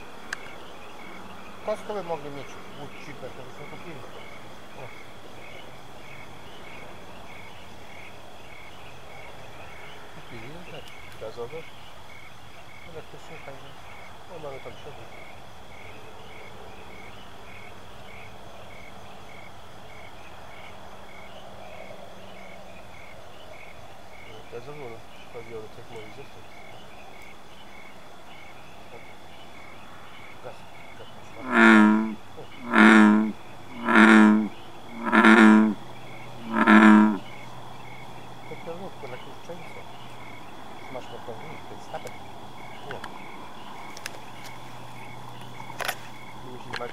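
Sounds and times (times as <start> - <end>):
insect chirping: 0.0 - 46.9
insect chorus: 0.0 - 46.9.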